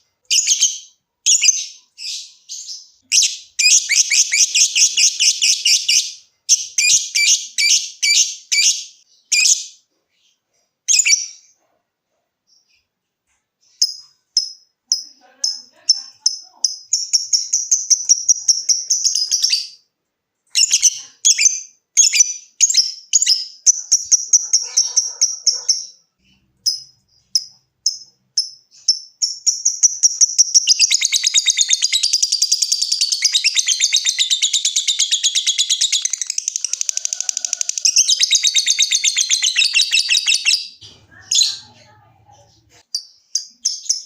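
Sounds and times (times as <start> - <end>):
lovebird chirping: 0.0 - 19.9, 20.5 - 44.0
lovebird chattering trill: 0.3 - 9.8, 13.7 - 19.8, 20.5 - 44.0.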